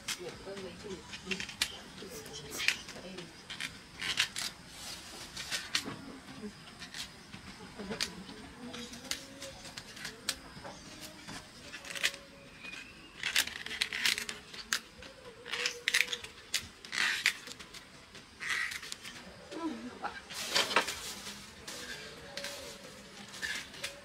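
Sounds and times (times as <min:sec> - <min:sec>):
rustling and scraping: 0:00.0 - 0:24.0.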